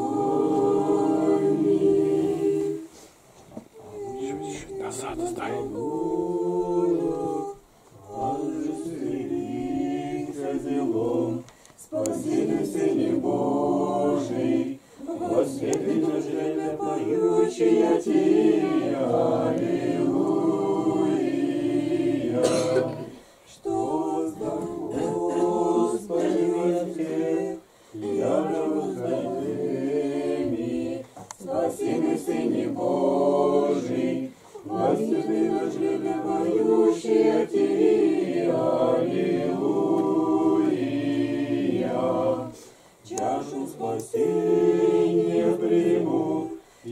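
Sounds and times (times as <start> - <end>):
choir singing a cappella chant: 0.0 - 46.9.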